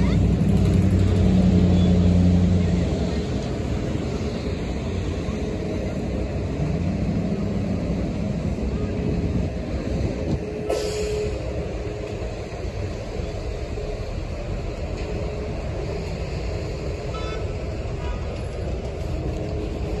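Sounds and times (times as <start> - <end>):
cars and buses driving past: 0.0 - 20.0.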